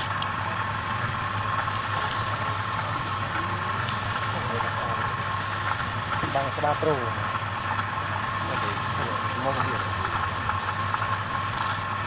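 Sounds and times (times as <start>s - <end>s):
wood lathe motor hum: 0.0s - 12.0s.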